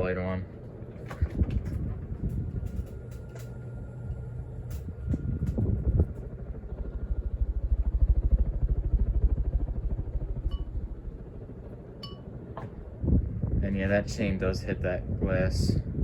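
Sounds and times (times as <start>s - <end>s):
ceiling fan motor whine: 0.0s - 16.0s
low throbbing of moving air: 0.0s - 16.0s.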